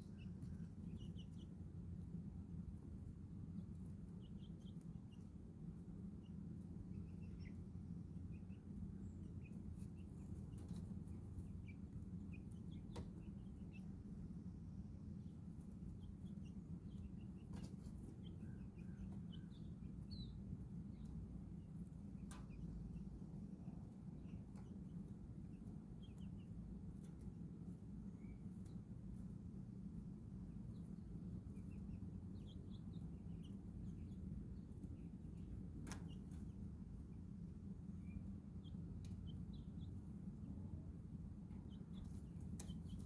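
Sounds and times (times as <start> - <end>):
birds chirping: 0.0 - 43.0
steady low hum: 0.0 - 43.0.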